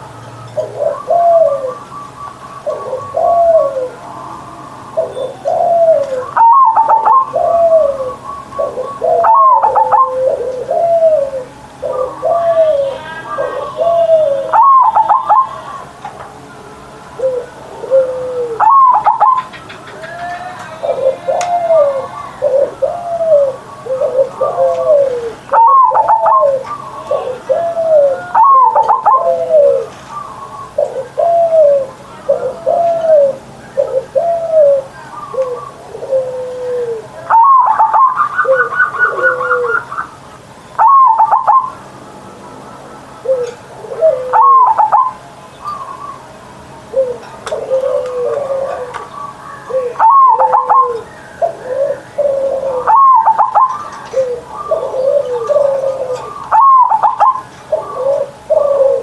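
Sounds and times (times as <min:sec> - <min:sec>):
dove cooing song: 0:00.0 - 0:59.0.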